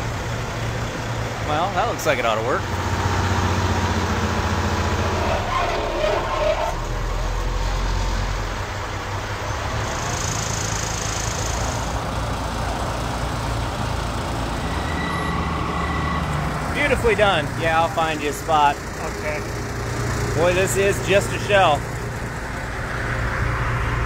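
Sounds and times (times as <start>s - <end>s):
forklift engine running: 0.0s - 24.0s
truck engine: 0.0s - 24.0s.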